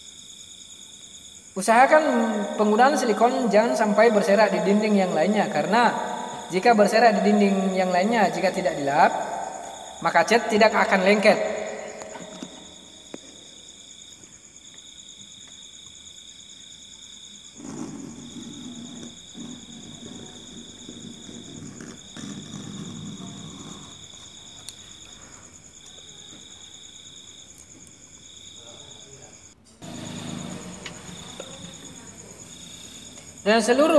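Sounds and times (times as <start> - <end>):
crickets trilling: 0.0 - 33.9
high steady insect tone: 0.0 - 33.9.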